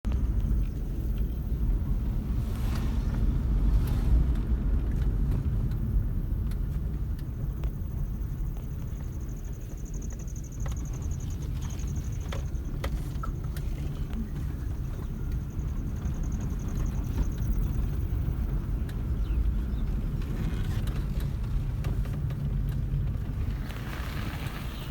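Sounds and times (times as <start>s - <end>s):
car interior rumble: 0.0s - 24.9s.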